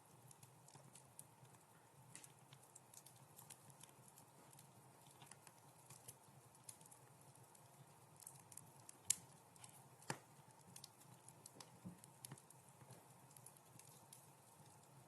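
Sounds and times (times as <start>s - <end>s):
wood fire crackling softly: 0.0s - 15.0s.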